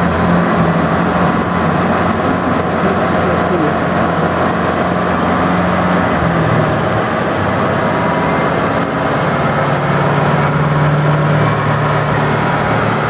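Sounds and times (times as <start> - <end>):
car engine on dyno: 0.0 - 13.0.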